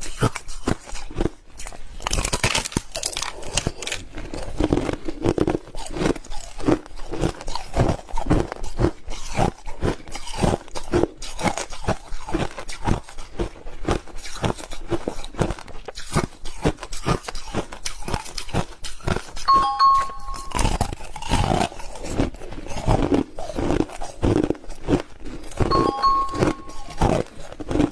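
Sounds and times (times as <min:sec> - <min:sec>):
crushed ice being chewed: 0:00.0 - 0:19.5, 0:20.5 - 0:25.8, 0:26.6 - 0:27.9.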